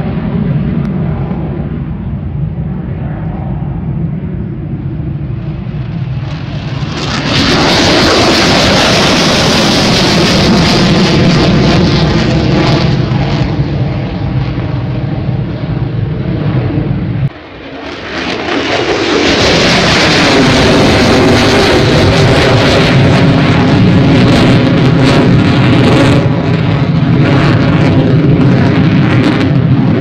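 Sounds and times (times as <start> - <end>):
fighter jet roaring: 0.0 - 30.0.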